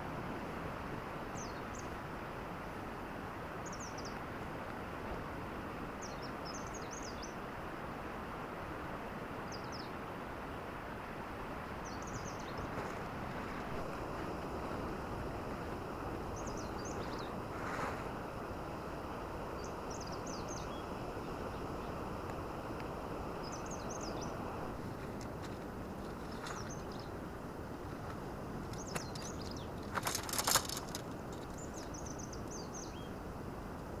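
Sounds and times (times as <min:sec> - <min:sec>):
night ambience hiss: 0:00.0 - 0:34.0.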